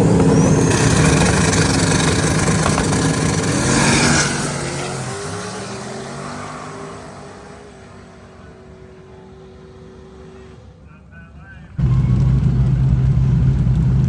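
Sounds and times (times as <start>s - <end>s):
racing car engines at full throttle: 0.0s - 11.1s, 11.8s - 14.0s
steady engine hum: 0.0s - 14.0s.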